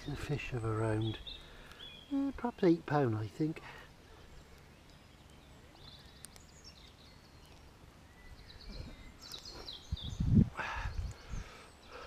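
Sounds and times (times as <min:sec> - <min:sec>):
distant birds trilling: 0:00.0 - 0:12.0.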